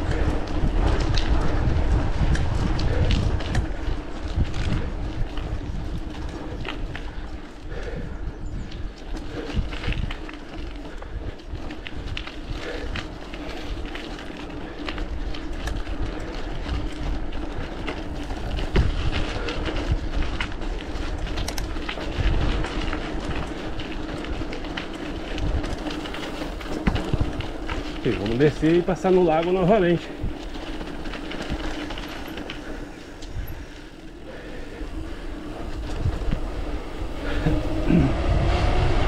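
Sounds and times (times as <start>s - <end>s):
bike clicks and rattles: 0.0s - 39.0s
bike tyres rolling hum: 0.0s - 39.0s
wind rumbling on microphone: 0.0s - 39.0s.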